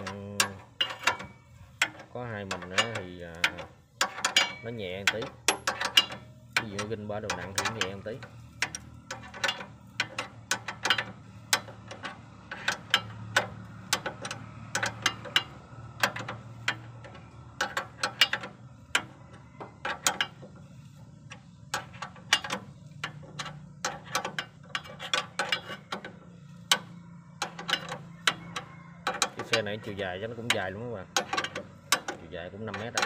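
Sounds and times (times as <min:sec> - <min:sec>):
hand tools clinking on metal: 0:00.0 - 0:20.7, 0:21.3 - 0:33.0.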